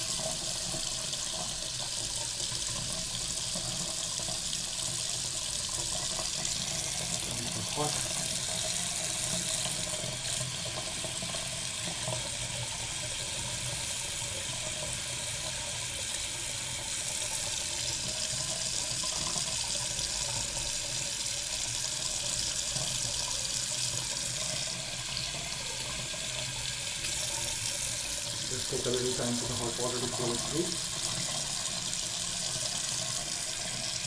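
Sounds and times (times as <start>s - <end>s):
water running into sink: 0.0s - 34.0s.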